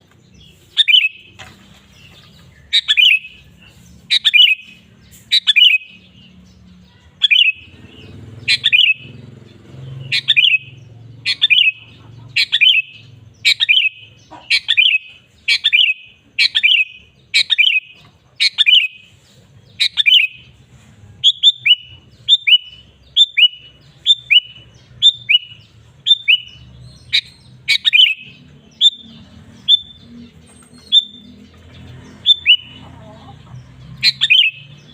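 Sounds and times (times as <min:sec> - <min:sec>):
bulbul singing: 0:00.0 - 0:34.9.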